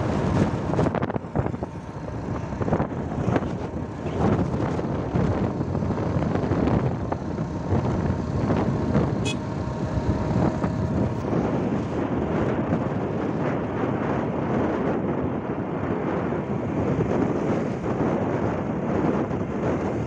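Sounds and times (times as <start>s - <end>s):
motorcycle engine and road noise: 0.0s - 20.0s
wind buffeting microphone: 0.0s - 20.0s.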